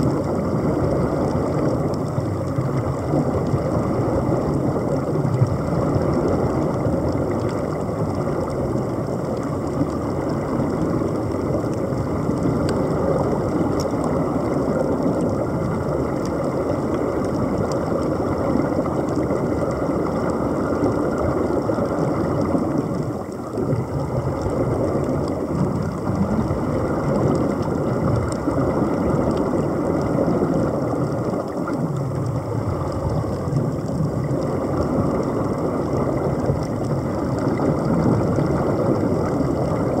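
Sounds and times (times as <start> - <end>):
underwater air bubbling: 0.0 - 40.0.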